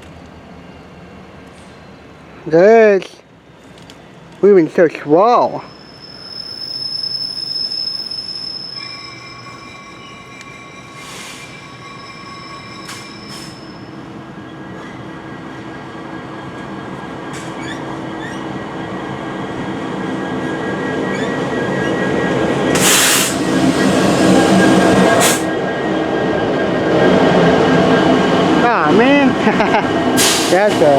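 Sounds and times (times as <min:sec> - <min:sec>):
train rolling rumble: 0:00.0 - 0:30.9
train wheels squealing: 0:03.4 - 0:28.8, 0:30.2 - 0:30.9.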